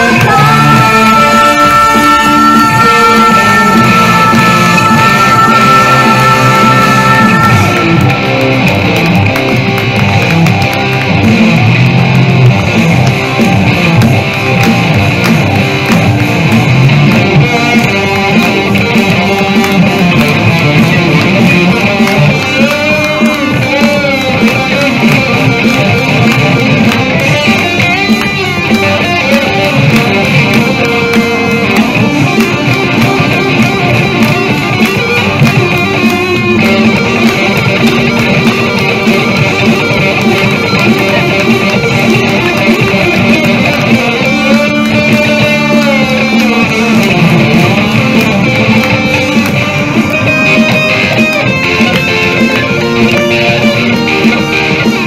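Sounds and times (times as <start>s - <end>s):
electric guitar rock lead: 0.0s - 55.0s.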